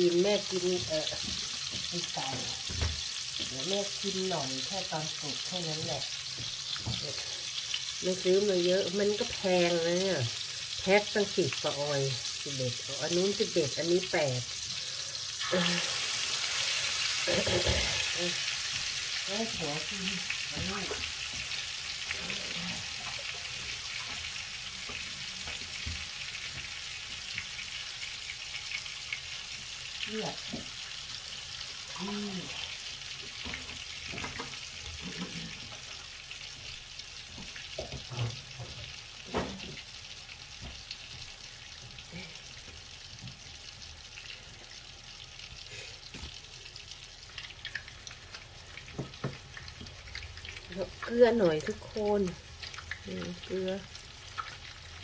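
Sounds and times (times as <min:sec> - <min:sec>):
oil popping and crackling: 0:00.0 - 0:55.0
steaks sizzling in a frying pan: 0:00.0 - 0:55.0.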